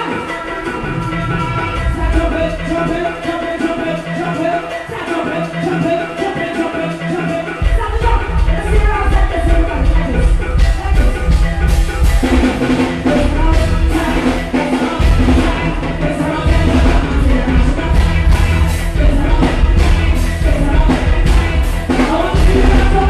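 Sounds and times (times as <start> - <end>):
heavy bass line: 0.0 - 5.8, 7.0 - 23.0
driving drum beat: 0.0 - 23.0
live band music through a pa: 0.0 - 23.0
person singing: 0.0 - 23.0.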